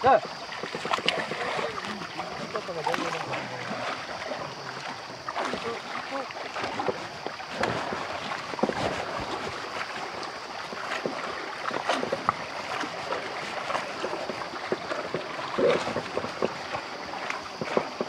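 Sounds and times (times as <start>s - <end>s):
cart splashing through water: 0.0s - 18.0s.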